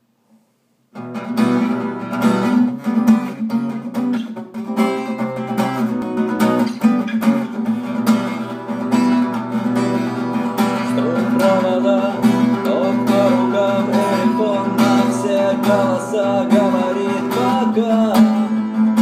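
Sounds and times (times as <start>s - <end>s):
acoustic guitar strumming: 0.9s - 19.0s.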